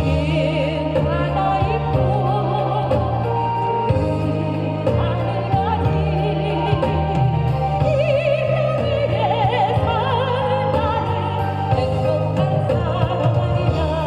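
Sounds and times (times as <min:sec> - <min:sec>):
band accompaniment: 0:00.0 - 0:14.0
person singing with vibrato: 0:00.0 - 0:14.0.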